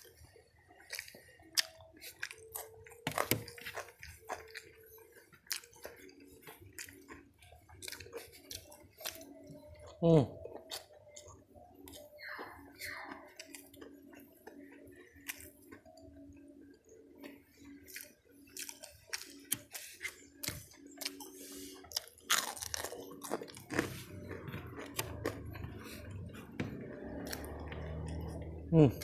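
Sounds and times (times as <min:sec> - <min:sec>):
chewing crispy fried chicken: 0:00.0 - 0:29.0.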